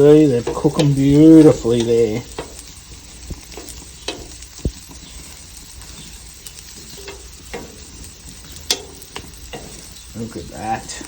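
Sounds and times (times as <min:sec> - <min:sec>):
food sizzling on hot plate: 0:00.0 - 0:11.0
pops and clicks: 0:00.4 - 0:10.2.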